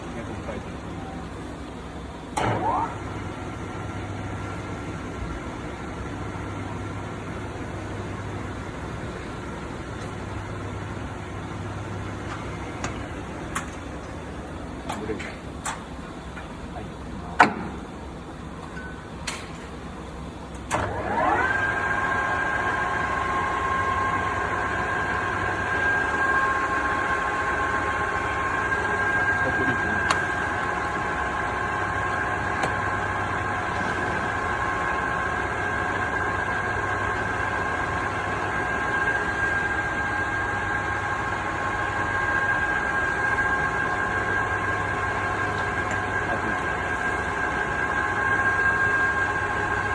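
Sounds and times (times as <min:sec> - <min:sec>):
lathe gear whine: 0:00.0 - 0:17.2, 0:17.8 - 0:49.9.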